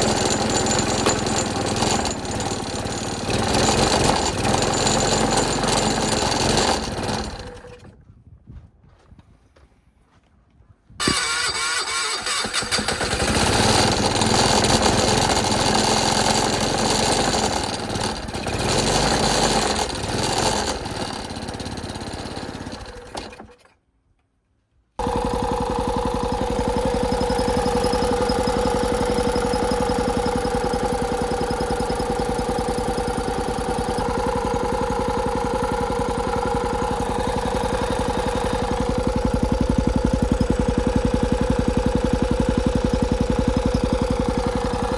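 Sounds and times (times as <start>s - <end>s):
excavator engine running: 0.0s - 8.0s, 11.0s - 23.6s, 25.0s - 44.9s.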